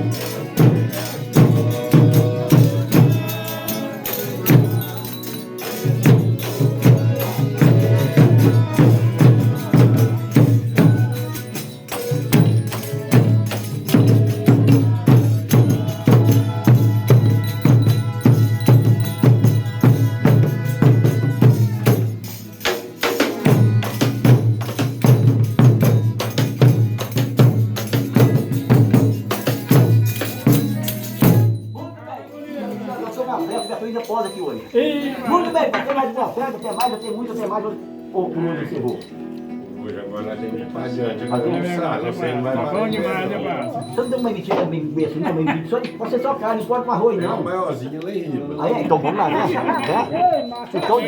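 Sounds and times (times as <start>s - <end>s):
tambourine beat: 0.0s - 37.5s, 41.3s - 47.4s, 48.6s - 51.0s.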